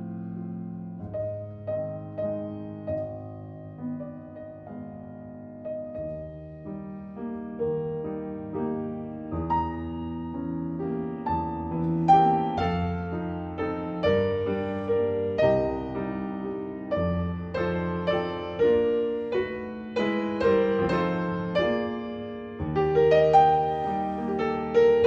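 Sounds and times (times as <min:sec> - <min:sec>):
classical piano piece: 0:00.0 - 0:25.0.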